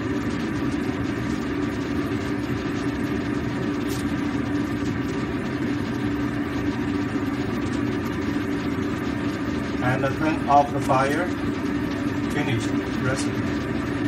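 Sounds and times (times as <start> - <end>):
gas stove hum and rushing: 0.0 - 14.0.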